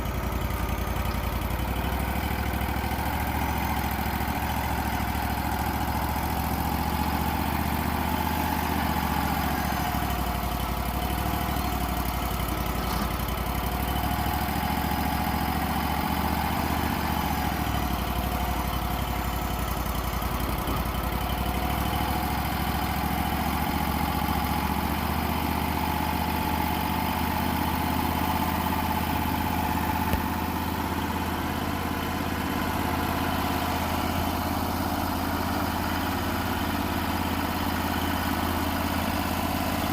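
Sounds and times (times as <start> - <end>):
band sawmill engine droning: 0.0 - 39.9.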